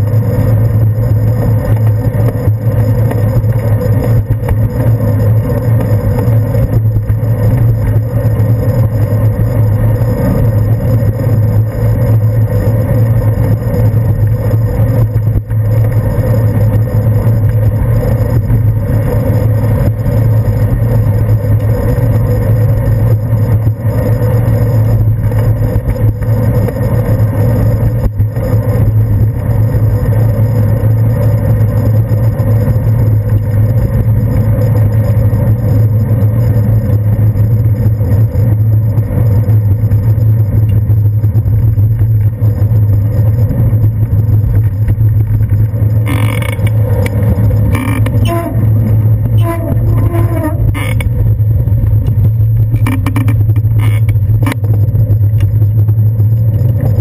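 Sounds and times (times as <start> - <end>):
bicycle rolling rumble: 0.0 - 57.0
road vibration: 0.0 - 57.0.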